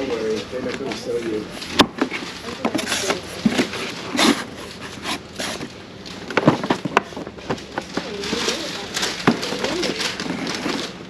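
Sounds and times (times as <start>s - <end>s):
objects clicking and knocking: 0.7s - 11.0s.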